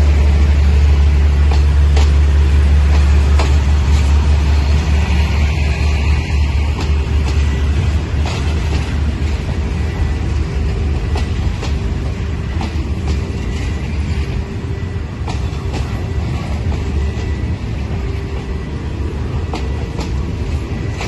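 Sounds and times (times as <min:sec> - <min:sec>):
train rumbling past: 0:00.0 - 0:21.0
wheels clicking over rail joints: 0:01.0 - 0:05.1, 0:06.5 - 0:21.0.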